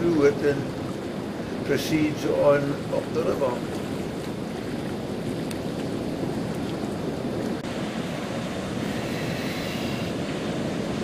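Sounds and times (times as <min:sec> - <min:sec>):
river current: 0:00.0 - 0:11.0
surf: 0:00.0 - 0:11.0
wind buffeting microphone: 0:00.0 - 0:11.0.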